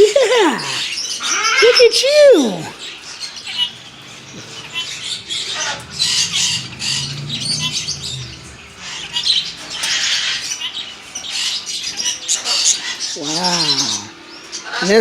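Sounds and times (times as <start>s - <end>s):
parrots squawking and screeching: 0.0s - 15.0s.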